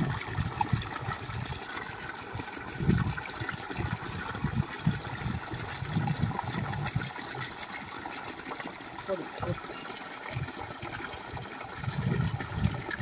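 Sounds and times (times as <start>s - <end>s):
water gushing from pipe: 0.0s - 13.0s
water splashing into pool: 0.0s - 13.0s.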